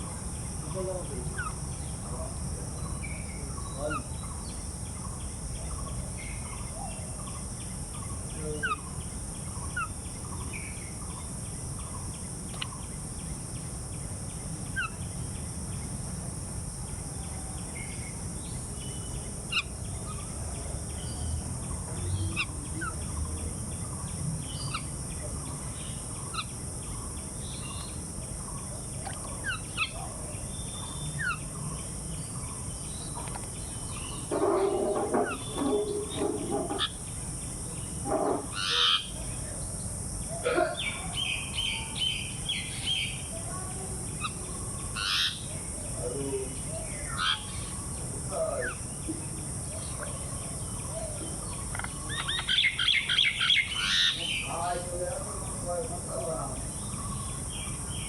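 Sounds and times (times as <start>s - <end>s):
birds chirping: 0.0s - 16.0s, 16.8s - 58.0s
steady high hiss: 0.0s - 58.0s.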